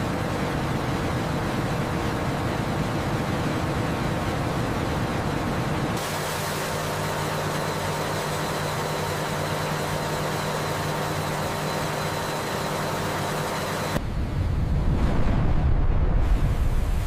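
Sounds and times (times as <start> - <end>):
furnace flame blast rumble: 0.0 - 17.0
low mechanical hum: 0.0 - 17.0.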